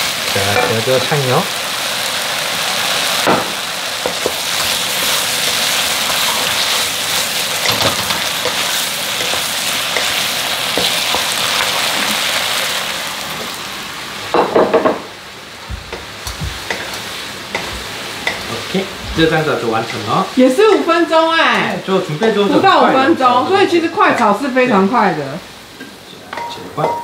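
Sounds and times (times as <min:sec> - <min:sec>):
zucchini sizzling in a pan: 0:00.0 - 0:27.0.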